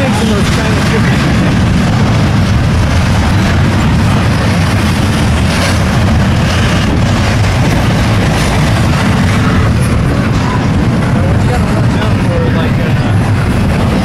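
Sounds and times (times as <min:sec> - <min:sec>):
freight train running past: 0:00.0 - 0:14.0
wind buffeting microphone: 0:00.0 - 0:14.0.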